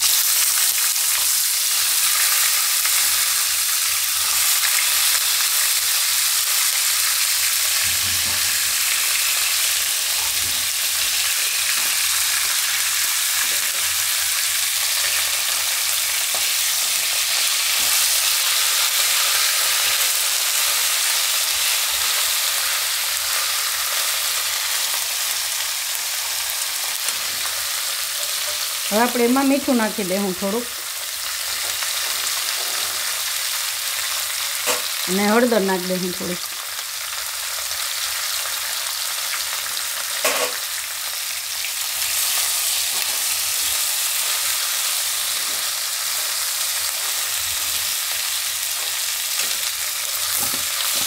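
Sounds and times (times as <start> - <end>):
vegetables frying in oil: 0.0 - 51.0.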